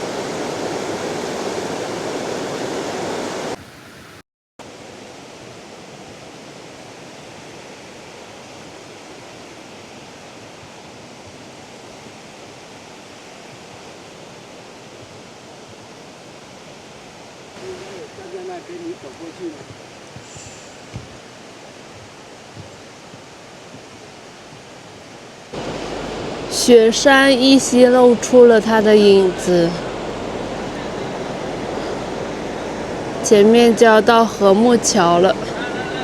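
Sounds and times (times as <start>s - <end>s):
mountain river roaring: 0.0s - 36.0s.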